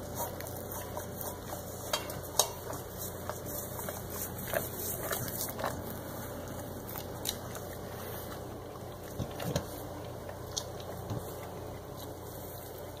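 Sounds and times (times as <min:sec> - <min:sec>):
cat crunching food in metal bowl: 0:00.0 - 0:13.0.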